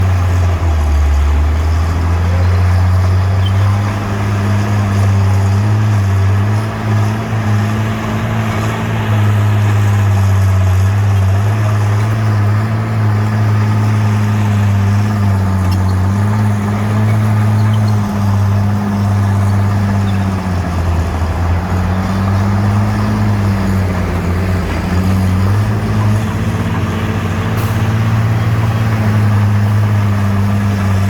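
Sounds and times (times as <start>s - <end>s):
bulldozer engine droning: 0.0s - 31.0s.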